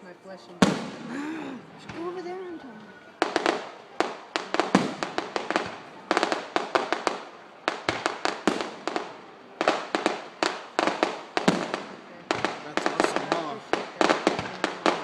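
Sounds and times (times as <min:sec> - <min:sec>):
aerial fireworks exploding: 0:00.6 - 0:01.2, 0:03.2 - 0:15.0.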